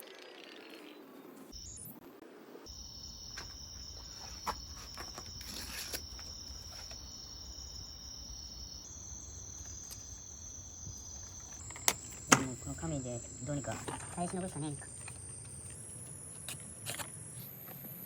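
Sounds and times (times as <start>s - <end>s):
insects chirring: 0.1s - 2.0s, 2.6s - 18.0s.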